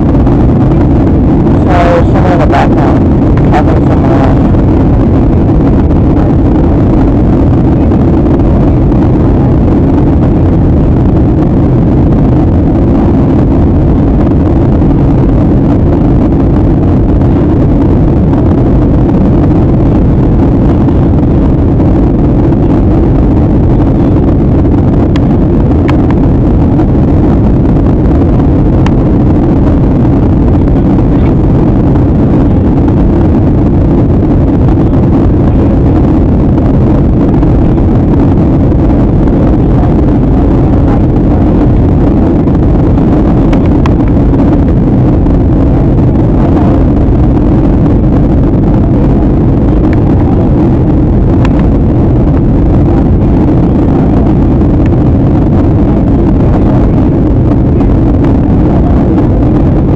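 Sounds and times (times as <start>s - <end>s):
jet engine cabin drone: 0.0s - 59.9s.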